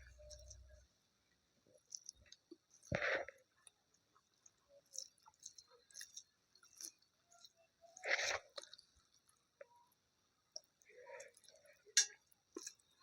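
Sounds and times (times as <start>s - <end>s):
person chewing food: 0.0s - 0.8s, 1.7s - 9.7s, 10.4s - 13.0s.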